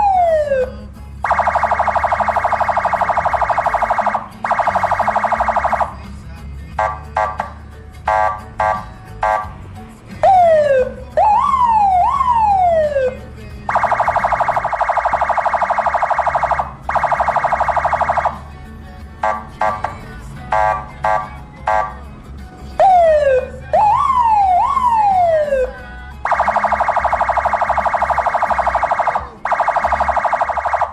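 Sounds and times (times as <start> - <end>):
electronic siren: 0.0 - 6.0, 6.8 - 9.5, 10.2 - 18.5, 19.2 - 21.9, 22.8 - 30.9.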